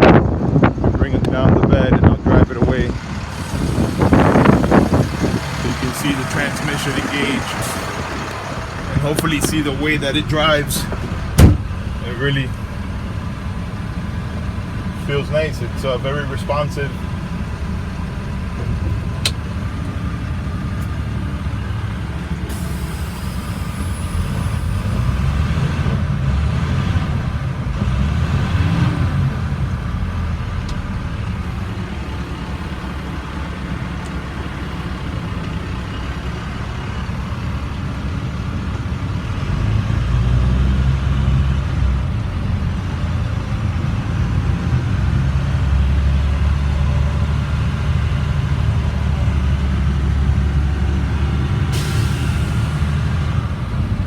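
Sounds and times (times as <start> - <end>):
diesel truck engine driving: 0.0 - 54.0.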